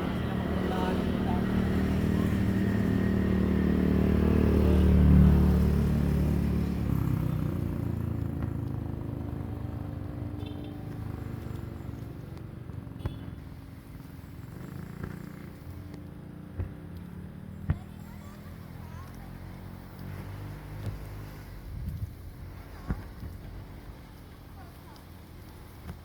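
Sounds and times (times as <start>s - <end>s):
vehicle engine: 0.0s - 25.8s.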